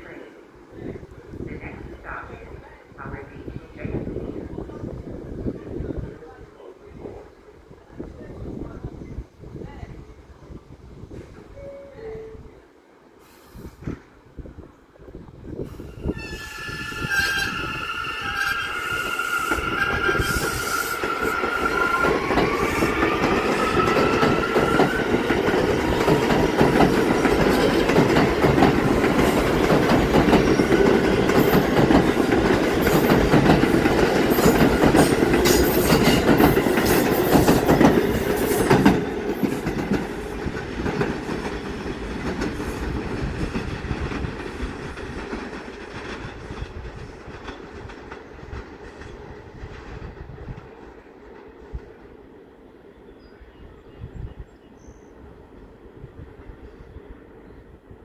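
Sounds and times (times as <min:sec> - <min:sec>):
subway train rumbling past: 0:00.0 - 0:58.0.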